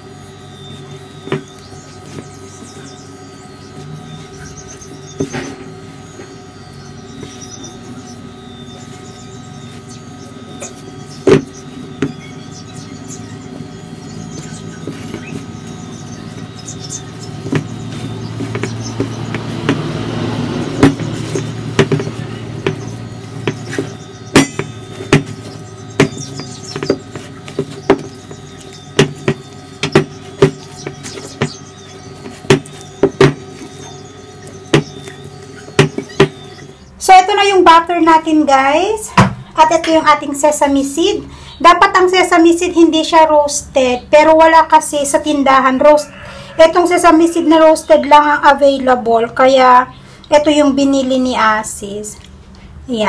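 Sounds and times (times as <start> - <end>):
steady hum: 0.0 - 53.0.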